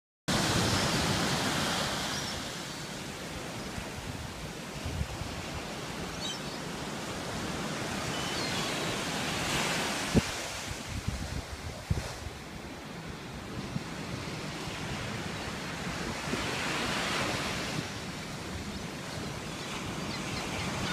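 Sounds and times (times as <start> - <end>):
small waves breaking on beach: 0.3 - 20.9.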